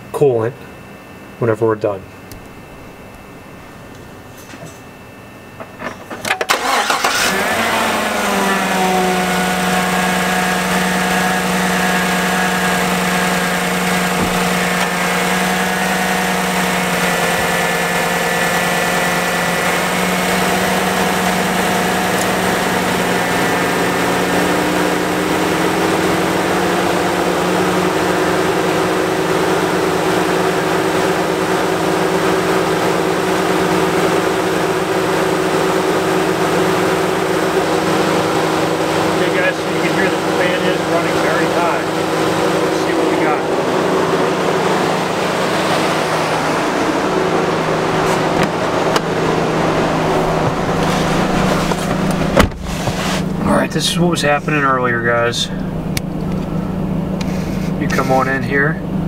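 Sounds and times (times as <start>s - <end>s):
pickup engine idling: 5.4s - 59.0s.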